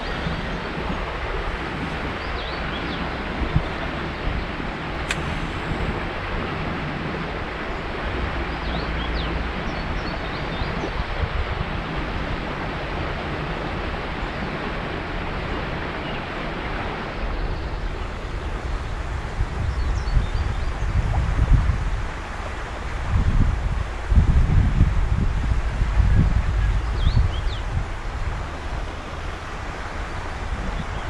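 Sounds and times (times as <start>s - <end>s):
flowing river water: 0.0s - 31.0s
wind buffeting microphone: 0.0s - 31.0s.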